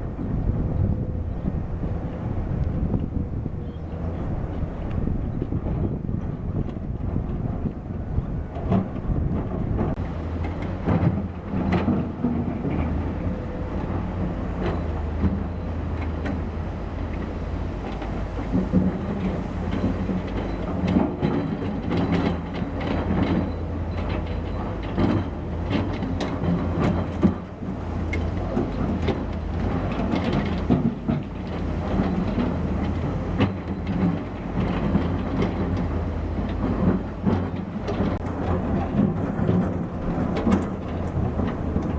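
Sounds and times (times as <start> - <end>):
construction machine diesel engine: 0.0 - 41.9.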